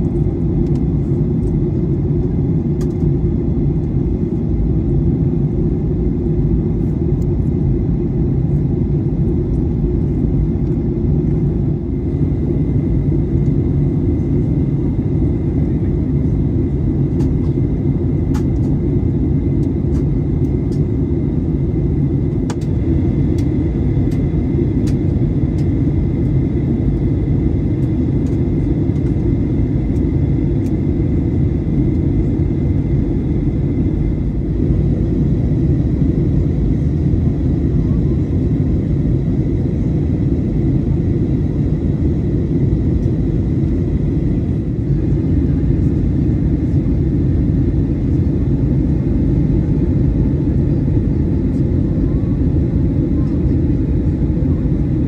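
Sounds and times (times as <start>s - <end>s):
airflow over fuselage: 0.0s - 55.0s
jet engines droning: 0.0s - 55.0s.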